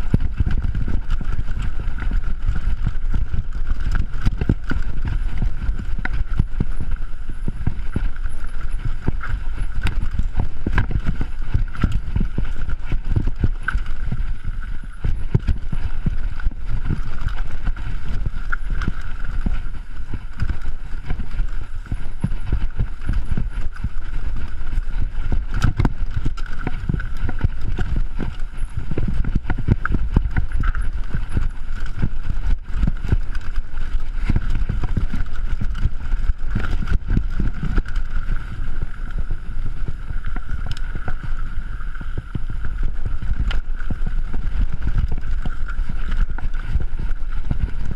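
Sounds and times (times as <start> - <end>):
low rumble: 0.0 - 47.9.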